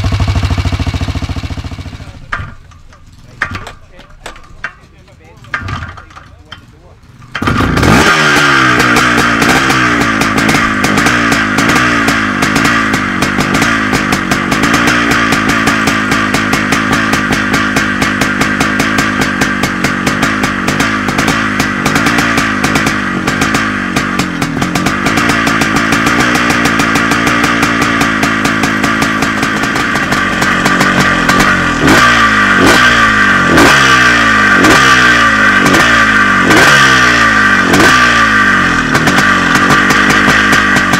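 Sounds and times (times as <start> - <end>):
two-stroke motocross engine running: 0.0 - 40.9.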